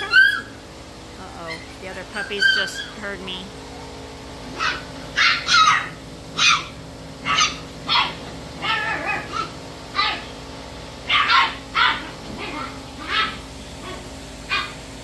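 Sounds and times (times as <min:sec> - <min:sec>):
puppies barking and yipping: 0:00.0 - 0:00.8, 0:01.4 - 0:03.1, 0:04.4 - 0:15.0.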